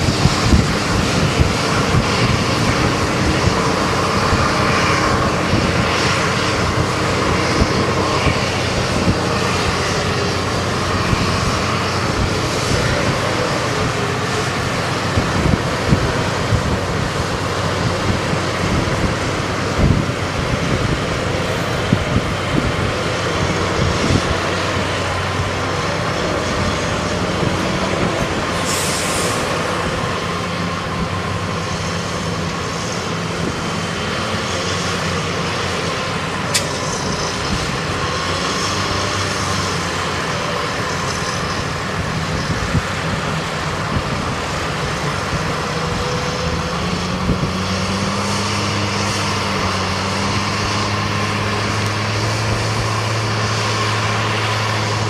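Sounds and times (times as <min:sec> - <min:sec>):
diesel tractor engines running: 0:00.0 - 0:55.0.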